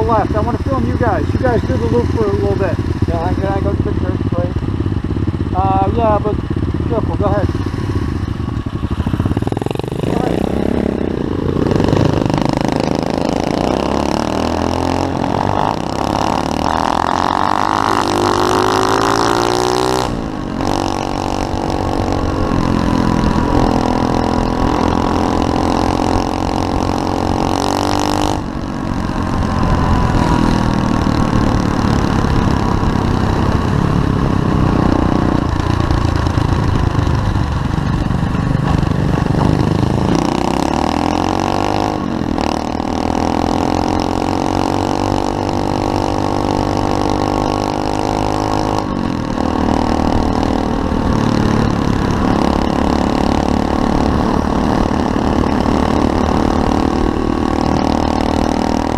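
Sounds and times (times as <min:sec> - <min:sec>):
pit bike engine revving: 0:00.0 - 0:58.9.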